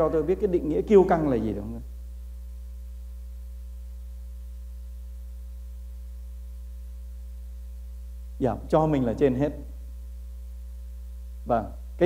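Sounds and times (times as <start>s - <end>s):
faint hiss: 0.0s - 12.0s
low electrical hum: 0.0s - 12.0s.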